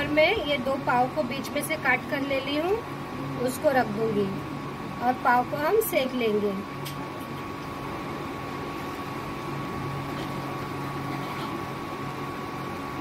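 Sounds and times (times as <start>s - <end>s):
mechanical hum with high whine: 0.0s - 13.0s.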